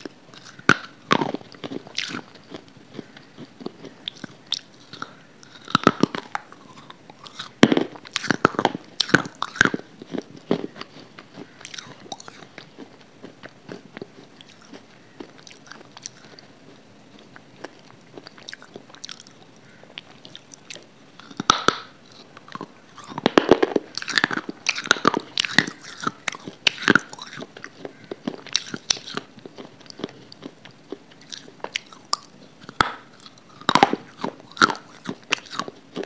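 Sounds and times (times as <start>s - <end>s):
crunchy chewing close up: 0.0s - 36.0s.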